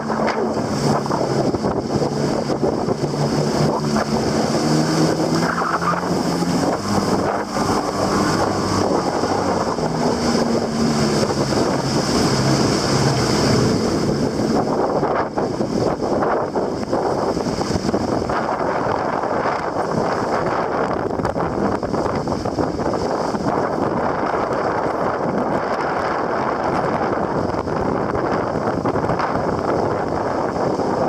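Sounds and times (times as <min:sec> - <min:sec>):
jet ski engine running: 0:00.0 - 0:31.0
water rushing: 0:00.0 - 0:31.0
wind buffeting microphone: 0:00.0 - 0:31.0.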